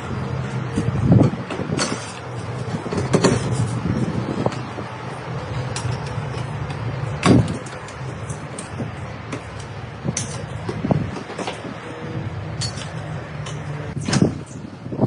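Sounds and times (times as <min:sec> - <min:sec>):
machinery rumbling: 0:00.0 - 0:15.0
metallic clanks and knocks: 0:00.7 - 0:04.8, 0:05.5 - 0:14.6.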